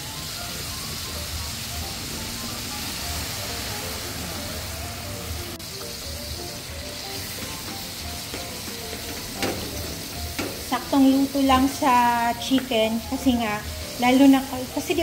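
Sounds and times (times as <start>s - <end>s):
chicken sizzling in a wok: 0.0s - 15.0s
light music with soft beat: 0.0s - 15.0s.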